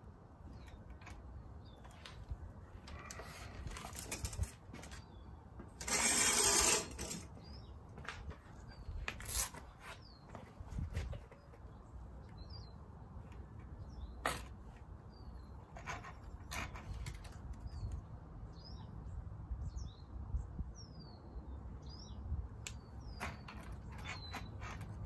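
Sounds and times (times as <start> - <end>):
small birds chirping: 0.4 - 5.6, 7.2 - 25.0.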